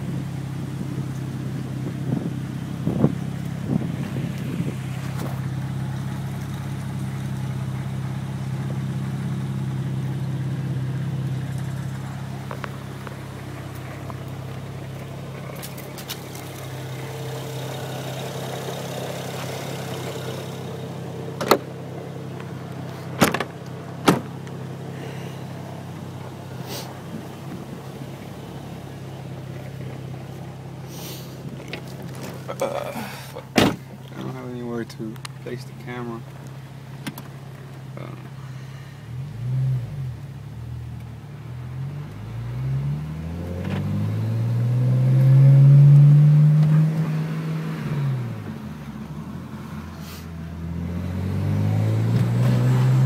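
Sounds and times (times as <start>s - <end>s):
car engine idling: 0.0s - 50.8s.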